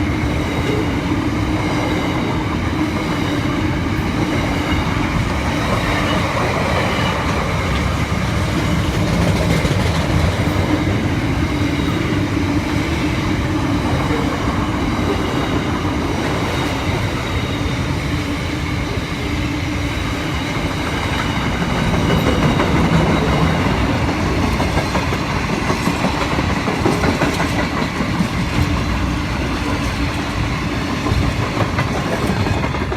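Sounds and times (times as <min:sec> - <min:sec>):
freight train rolling past: 0:00.0 - 0:32.9.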